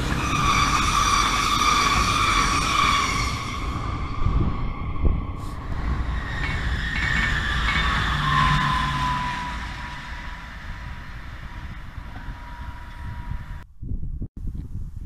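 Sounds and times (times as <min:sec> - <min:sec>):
electric train passing: 0:00.0 - 0:13.6
thin whine: 0:00.0 - 0:13.7.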